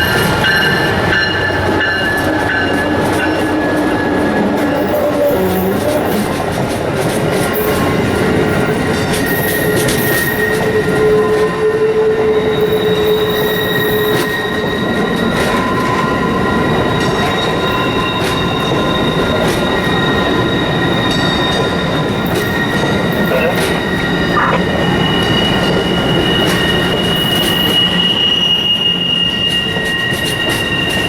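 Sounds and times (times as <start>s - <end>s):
train rumbling on tracks: 0.0s - 31.0s
wheels squealing on track: 2.1s - 31.0s.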